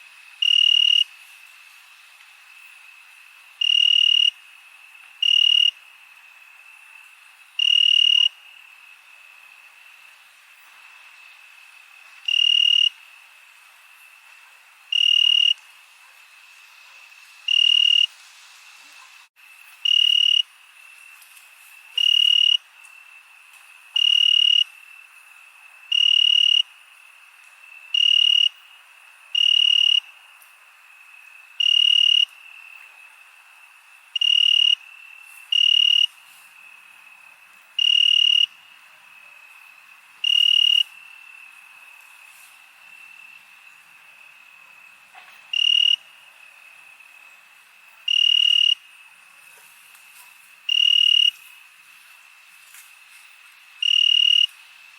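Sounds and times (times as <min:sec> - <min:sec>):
cricket chirping: 0:00.0 - 0:54.9
faint trill of crickets: 0:00.0 - 0:54.9.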